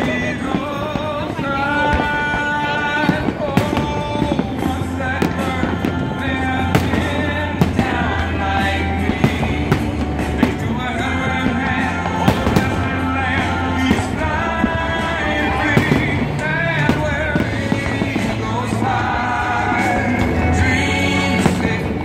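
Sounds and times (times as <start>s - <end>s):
fireworks bangs: 0.0s - 22.0s
music with singing: 0.0s - 22.0s.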